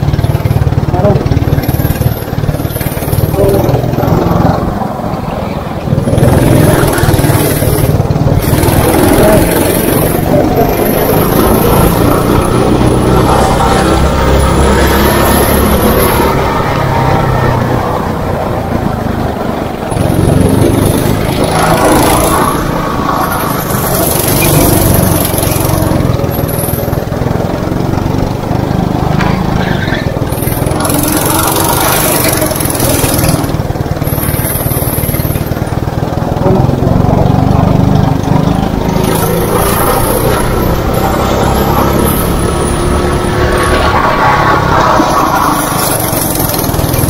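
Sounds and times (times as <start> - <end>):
go-kart engine revving: 0.0 - 47.0.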